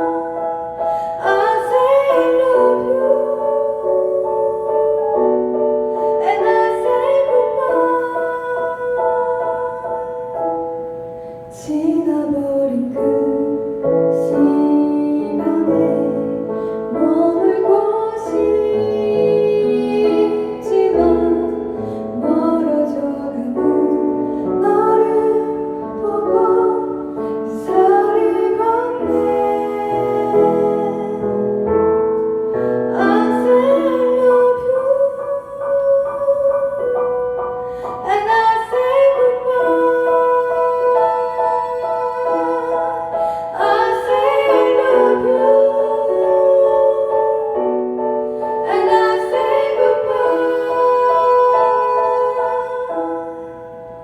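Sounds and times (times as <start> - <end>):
woman singing: 0.0 - 10.7, 11.5 - 31.9, 32.6 - 54.0
piano playing: 0.0 - 54.0.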